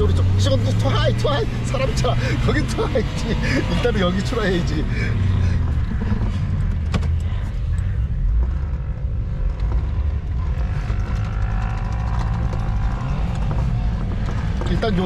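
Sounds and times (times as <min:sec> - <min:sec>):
vehicle engine running hard: 0:00.0 - 0:15.0.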